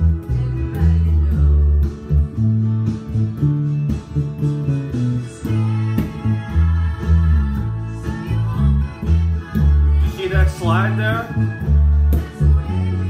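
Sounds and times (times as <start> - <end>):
acoustic guitar: 0.0 - 13.0
electric bass guitar: 0.0 - 13.0.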